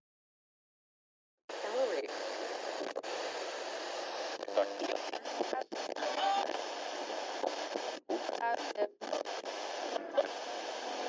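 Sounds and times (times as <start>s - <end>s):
radio static hiss: 1.5s - 11.0s
radio tone snatches: 1.5s - 11.0s.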